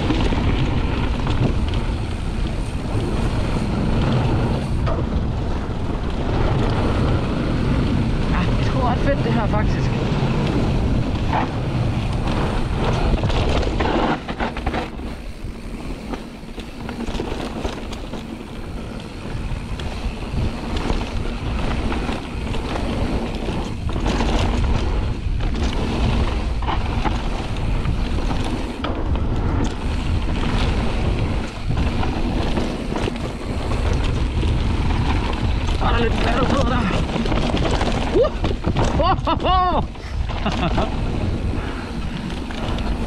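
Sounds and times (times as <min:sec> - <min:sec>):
bike knocking and rattling: 0:00.0 - 0:43.0
bike tyre noise: 0:00.0 - 0:43.0
wind rushing over microphone: 0:00.0 - 0:43.0.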